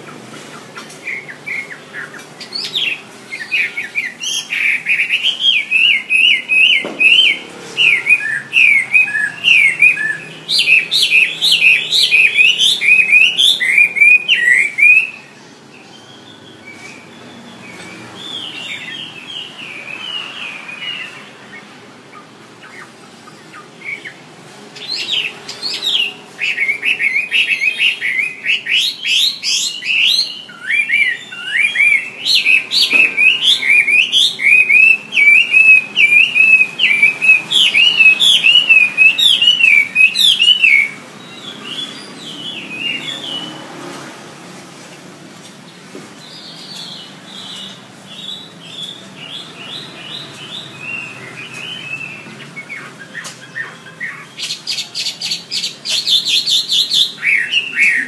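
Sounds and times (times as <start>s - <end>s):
bird singing whistled notes: 1.1s - 21.7s, 24.8s - 43.5s, 46.3s - 58.0s.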